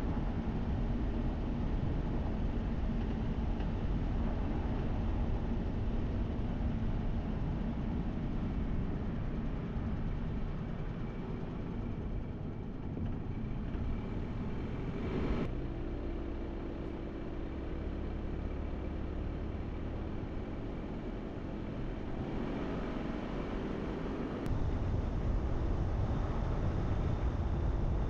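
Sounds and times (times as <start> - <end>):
car road and engine noise: 0.0 - 28.0
steady low hum: 0.0 - 28.0.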